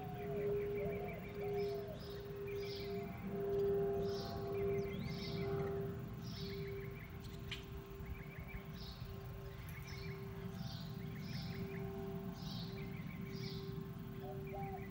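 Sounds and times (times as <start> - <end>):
low outdoor rumble: 0.0 - 14.9
songbird calling: 0.0 - 14.9
steady low tone: 0.0 - 14.9.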